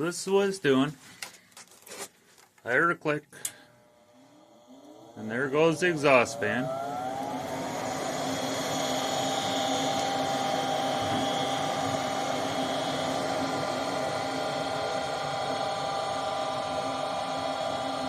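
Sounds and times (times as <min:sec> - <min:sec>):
furnace fan motor whine: 0:03.0 - 0:18.0.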